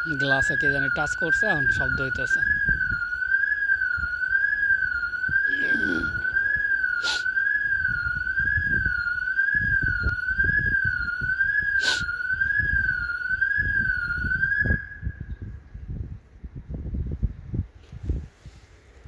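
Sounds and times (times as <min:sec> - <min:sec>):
car alarm warbling tone: 0:00.0 - 0:15.4.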